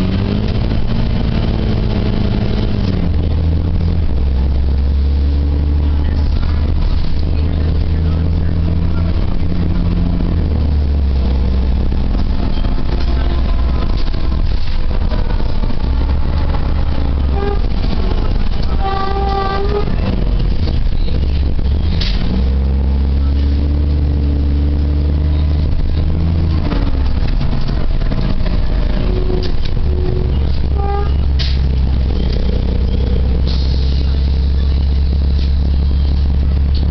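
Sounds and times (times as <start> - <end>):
bus engine droning: 0.0 - 36.9.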